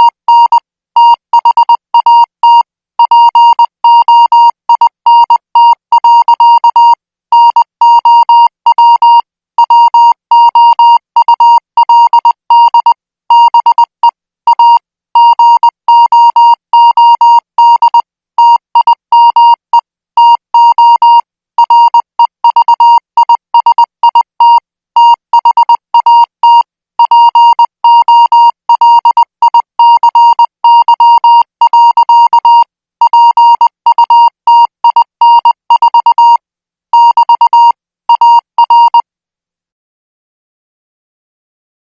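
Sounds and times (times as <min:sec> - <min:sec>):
morse code beeps: 0:00.0 - 0:13.9, 0:14.5 - 0:36.4, 0:37.0 - 0:39.0.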